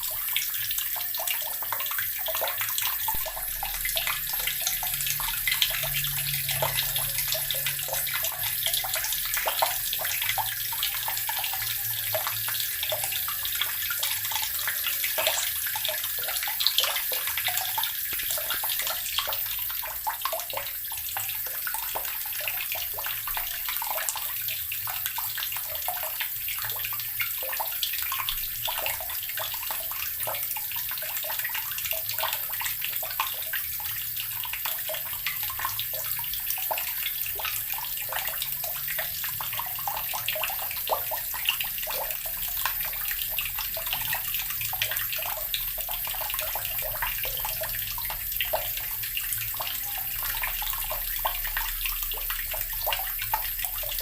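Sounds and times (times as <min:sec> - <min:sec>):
tap water gurgling into barrel: 0:00.0 - 0:54.0.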